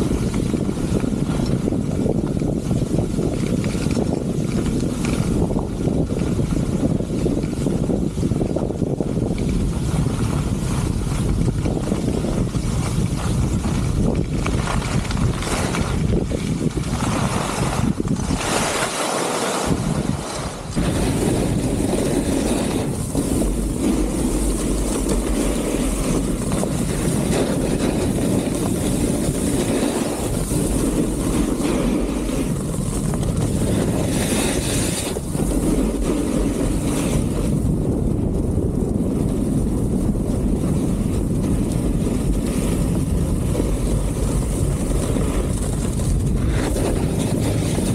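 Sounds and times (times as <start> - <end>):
skis scraping over snow: 0.0 - 47.9
wind rushing over microphone: 0.0 - 47.9.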